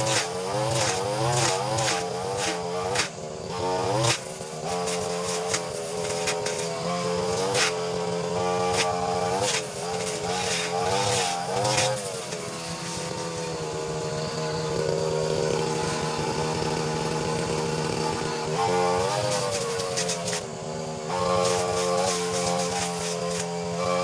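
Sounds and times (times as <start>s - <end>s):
brushcutter engine running fast: 0.0s - 24.0s.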